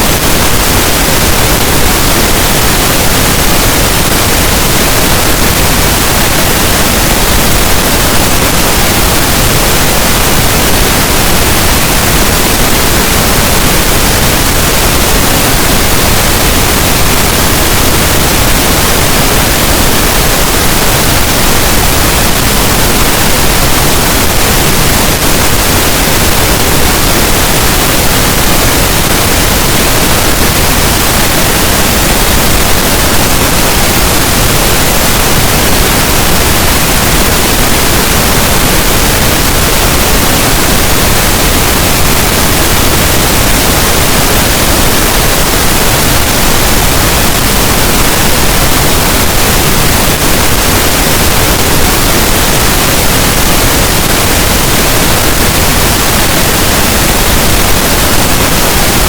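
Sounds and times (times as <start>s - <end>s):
loud pink noise hiss: 0.0s - 59.0s.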